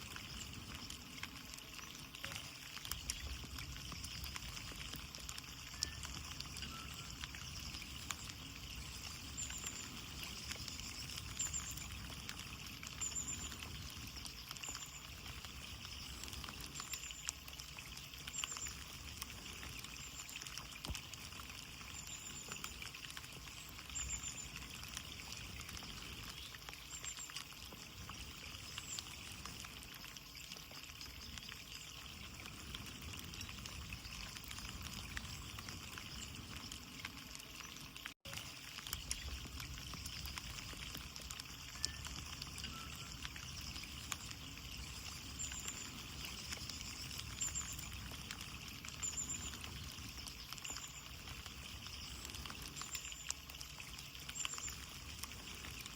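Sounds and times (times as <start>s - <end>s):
rain on a window: 0.0s - 55.9s.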